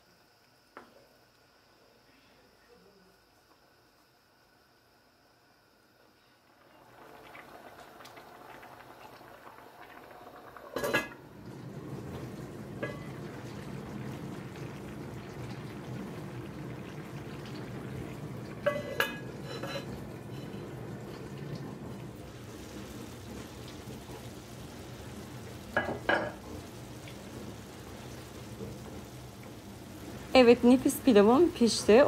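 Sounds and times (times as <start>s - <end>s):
pot simmering with bubbling: 3.1s - 32.0s.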